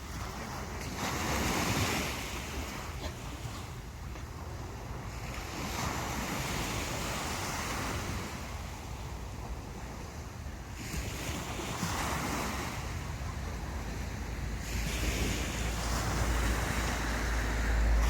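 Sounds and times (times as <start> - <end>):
sea waves breaking on beach: 0.0 - 18.0
wind rumble on microphone: 0.0 - 18.0.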